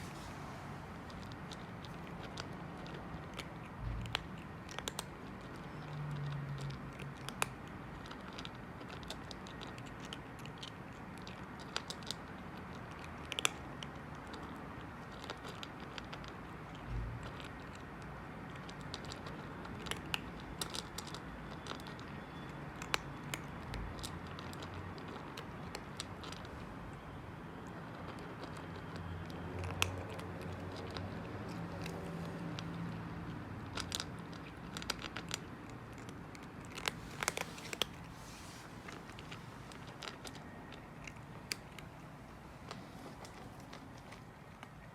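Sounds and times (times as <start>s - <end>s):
cat chewing food: 0.0s - 44.9s.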